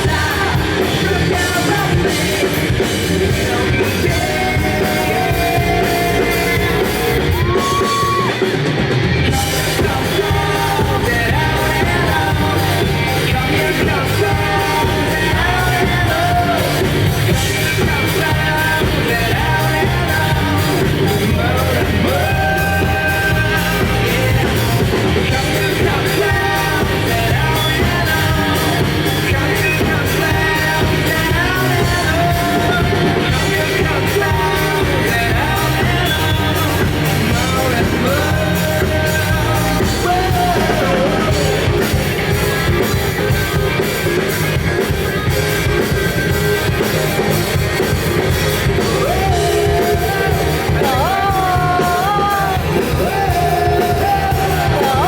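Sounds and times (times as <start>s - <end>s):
live rock band: 0.0s - 55.0s
man singing lead vocal: 0.0s - 55.0s.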